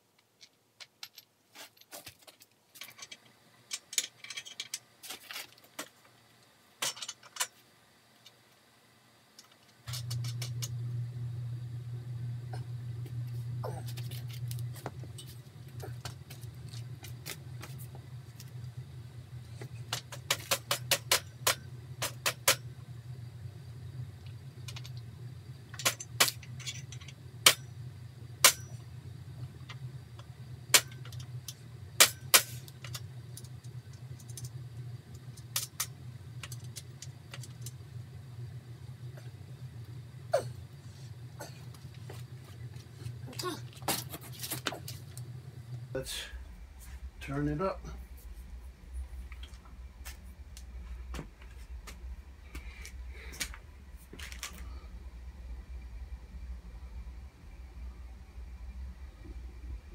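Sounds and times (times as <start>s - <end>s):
steady low hum: 2.8s - 59.9s.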